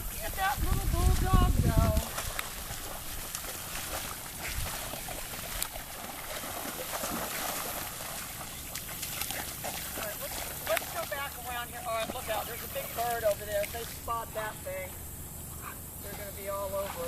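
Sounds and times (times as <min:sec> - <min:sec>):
water splashing around swimming dogs: 0:00.0 - 0:17.0.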